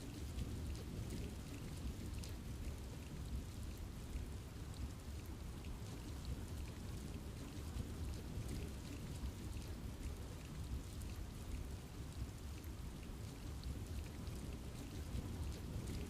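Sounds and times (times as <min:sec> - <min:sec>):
rain falling in a forest: 0:00.0 - 0:16.0.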